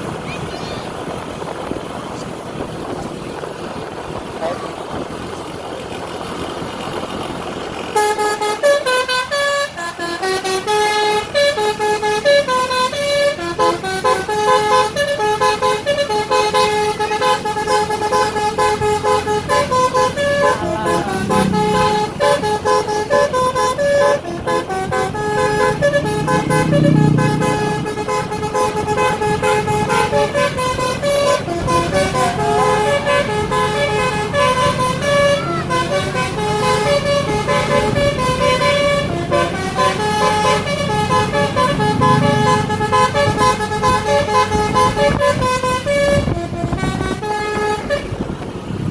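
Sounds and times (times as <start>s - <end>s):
multi-tone musical air horn: 8.0s - 48.5s.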